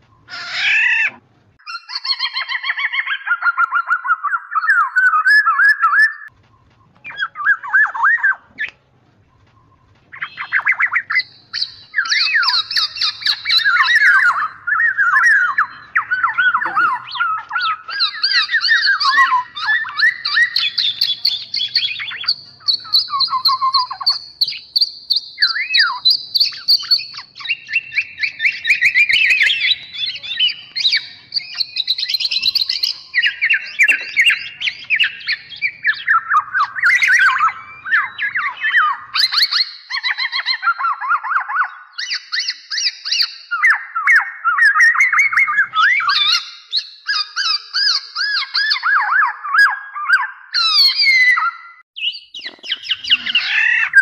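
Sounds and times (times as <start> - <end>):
birds chattering and whistling: 0.0 - 54.0.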